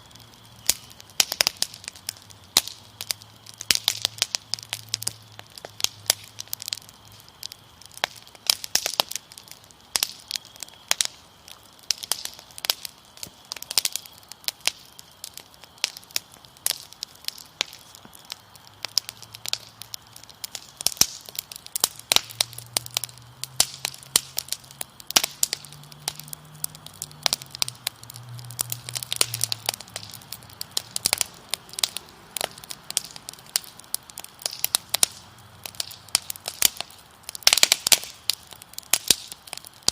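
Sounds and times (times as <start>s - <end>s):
crickets trilling: 0.0s - 39.9s
wood fire crackling and popping: 0.0s - 39.9s.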